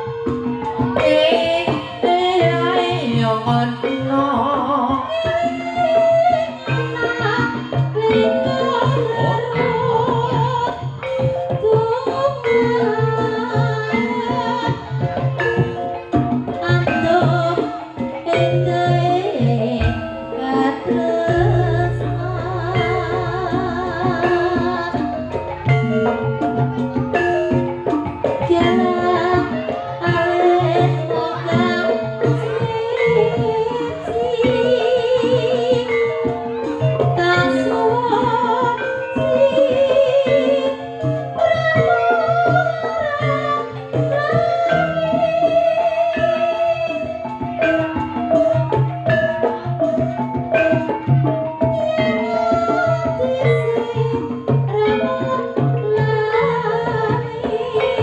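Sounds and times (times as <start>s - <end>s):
drums and instruments over pa: 0.0s - 58.0s
singing with strong vibrato: 0.0s - 58.0s.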